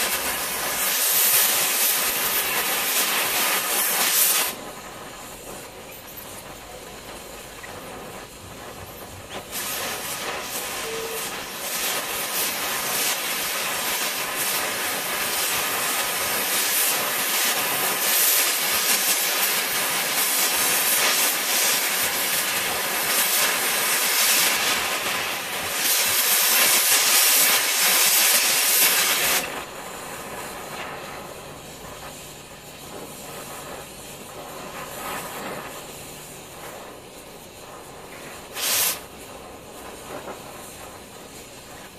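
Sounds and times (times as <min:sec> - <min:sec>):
torch flame hissing: 0:00.0 - 0:41.9.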